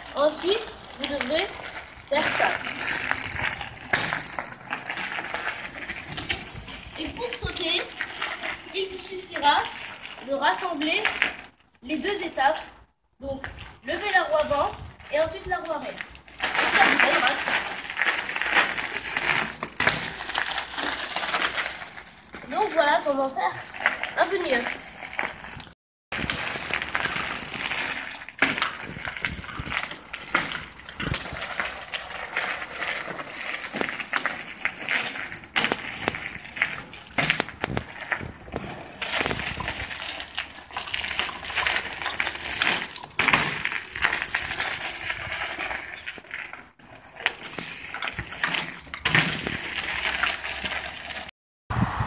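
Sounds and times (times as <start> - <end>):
bike tyres crunching gravel: 0.0 - 51.3
bike knocks and clatters: 0.2 - 8.2, 16.0 - 51.3.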